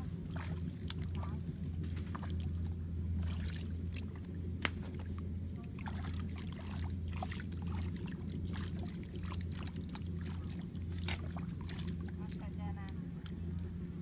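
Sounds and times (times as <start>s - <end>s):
low rumble: 0.0s - 14.0s
muddy water splashing: 0.0s - 14.0s.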